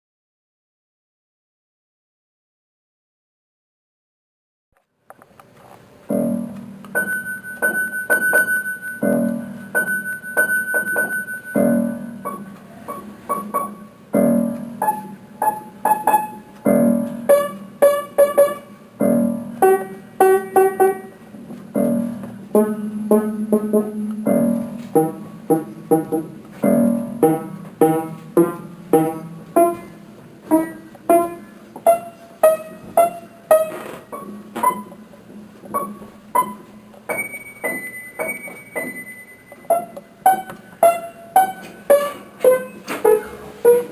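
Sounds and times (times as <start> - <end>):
piano music: 6.1 - 43.9.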